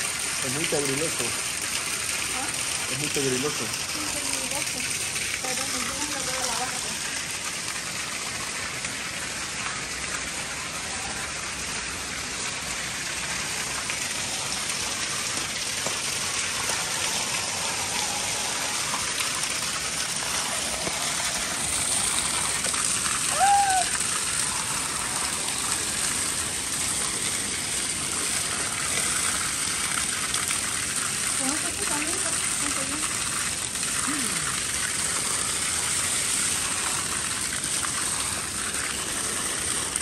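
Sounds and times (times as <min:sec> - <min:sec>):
water gushing onto tiled floor: 0:00.0 - 0:40.0.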